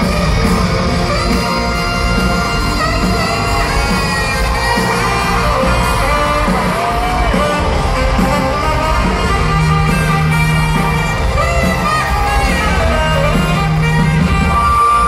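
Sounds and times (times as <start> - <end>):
lead electric guitar melody: 0.0 - 15.0
live rock band playing: 0.0 - 15.0.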